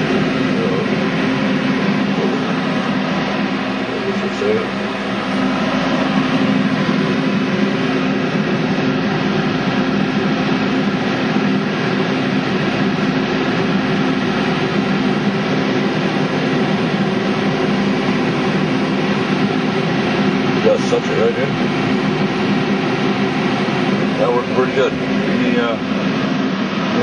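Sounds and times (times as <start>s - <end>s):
exhaust fan rushing air: 0.0s - 27.0s.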